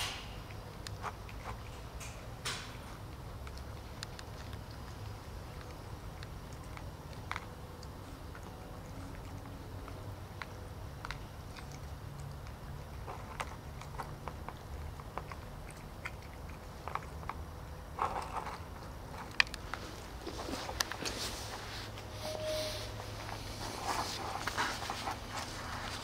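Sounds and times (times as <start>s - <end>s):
cats chewing and eating: 0.0s - 26.0s.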